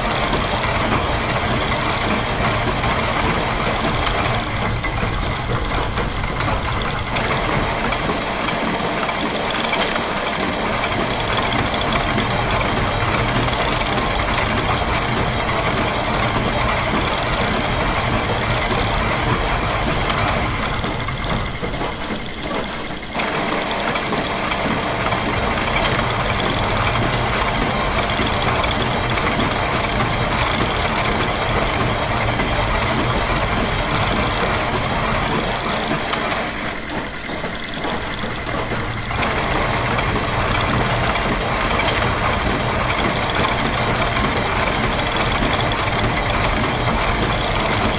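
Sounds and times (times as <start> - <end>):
gears: 0.0 - 47.9
high mechanical clattering: 0.0 - 47.9
sewing machine: 0.0 - 47.9.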